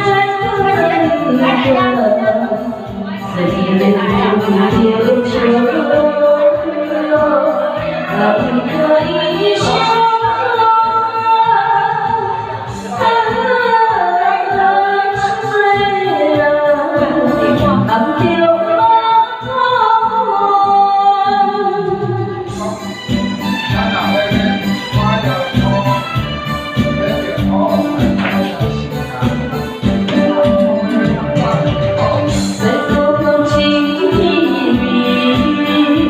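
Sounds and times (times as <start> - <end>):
person singing: 0.0 - 23.0, 26.9 - 36.0
backing music with a beat: 0.0 - 36.0.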